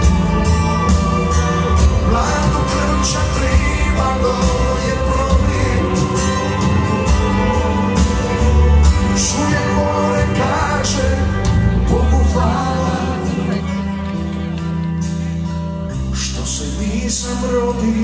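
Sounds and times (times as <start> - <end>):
person singing: 0.0 - 14.7
live band playing: 0.0 - 18.0.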